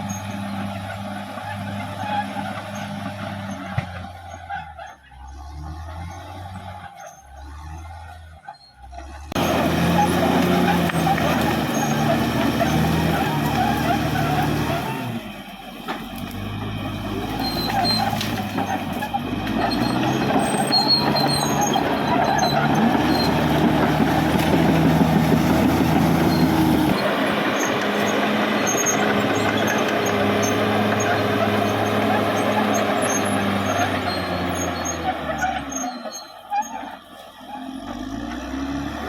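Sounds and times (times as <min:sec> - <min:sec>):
bulldozer diesel engine working: 0:00.0 - 0:39.0.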